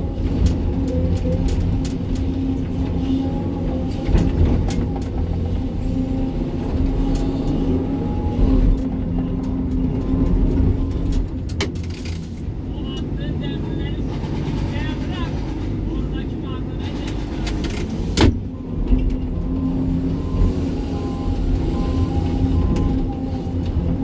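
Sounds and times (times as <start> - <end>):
excavator diesel engine under load: 0.0 - 24.0.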